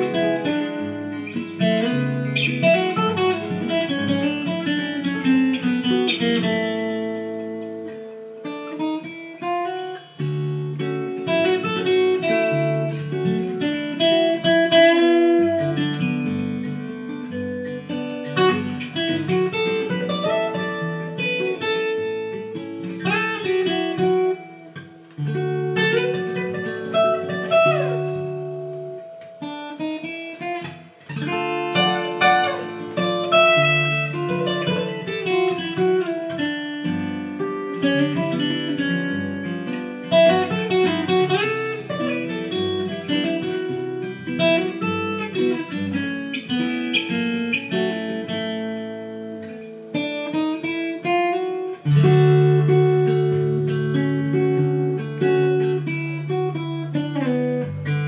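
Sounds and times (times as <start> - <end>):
acoustic guitar duet: 0.0 - 58.0.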